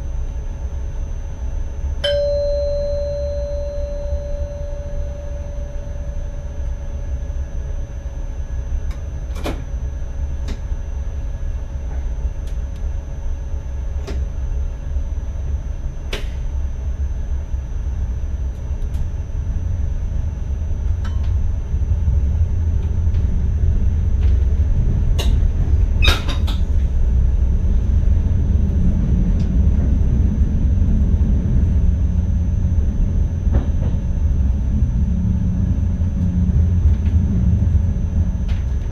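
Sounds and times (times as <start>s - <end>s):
train low rumble: 0.0s - 38.9s.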